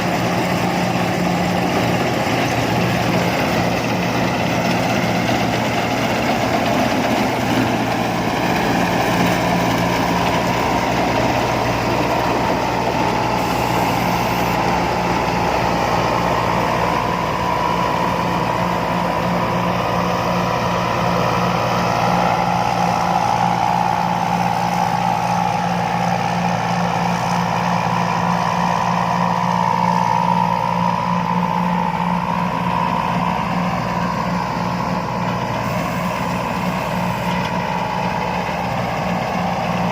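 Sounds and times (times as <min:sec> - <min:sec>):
diesel engine running steadily: 0:00.0 - 0:39.9
high whine: 0:06.6 - 0:39.8.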